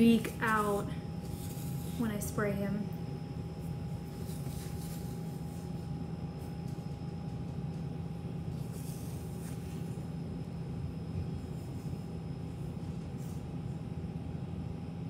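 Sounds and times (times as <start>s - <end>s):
low mechanical hum: 0.0s - 15.0s
thin constant whine: 0.0s - 15.0s.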